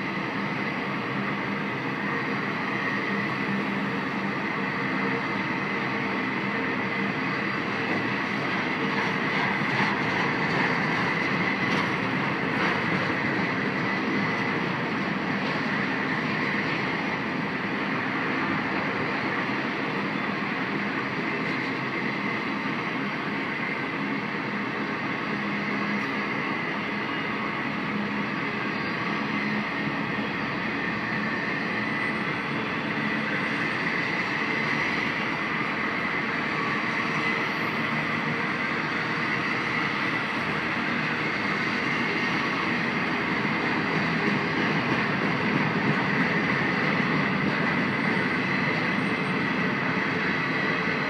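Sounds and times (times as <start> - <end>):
freight train wheels on rail: 0.0 - 51.0.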